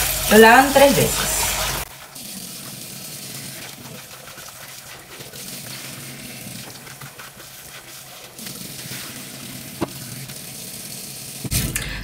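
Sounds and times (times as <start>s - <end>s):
rinse water poured off: 0.0s - 11.6s
rice swished by hand: 1.2s - 11.5s.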